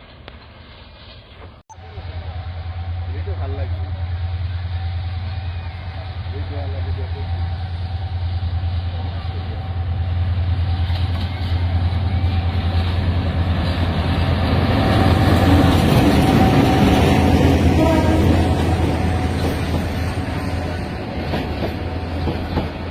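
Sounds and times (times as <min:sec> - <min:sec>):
train running with low drone: 0:00.0 - 0:22.9.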